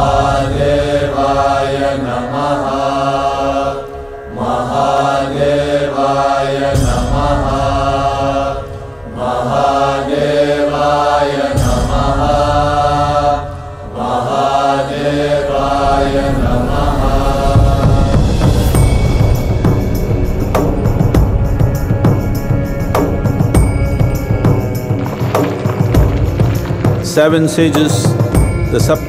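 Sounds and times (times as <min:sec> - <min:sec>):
voices chanting a mantra: 0:00.0 - 0:29.0.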